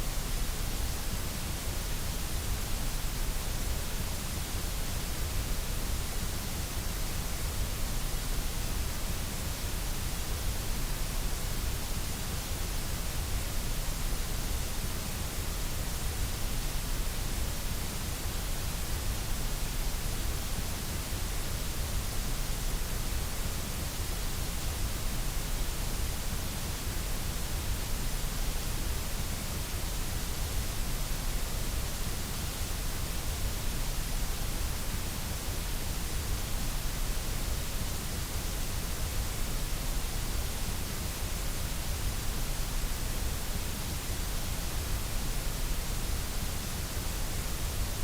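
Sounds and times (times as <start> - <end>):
white noise hiss: 0.0 - 48.0.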